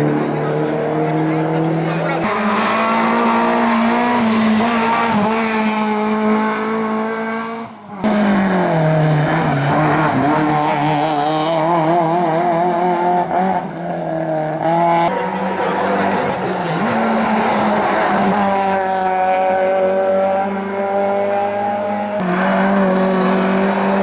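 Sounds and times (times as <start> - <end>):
race car engine at high revs: 0.0 - 24.0
race car engine revving: 0.0 - 24.0.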